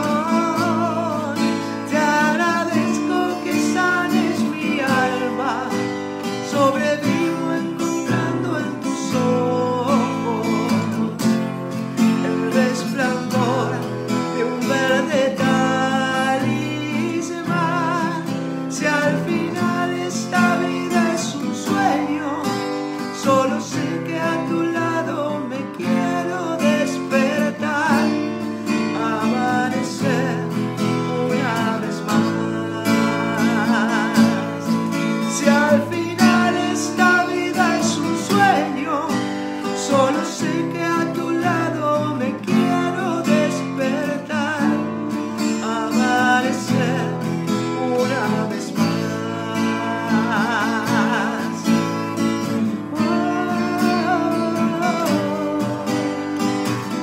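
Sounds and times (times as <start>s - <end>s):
man singing with vibrato: 0.0s - 57.0s
strummed acoustic guitar: 0.0s - 57.0s.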